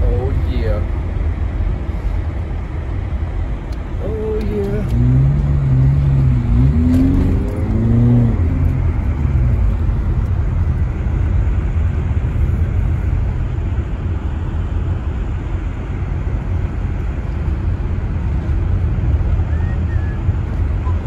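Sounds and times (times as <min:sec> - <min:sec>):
car driving on snow: 0:00.0 - 0:21.0.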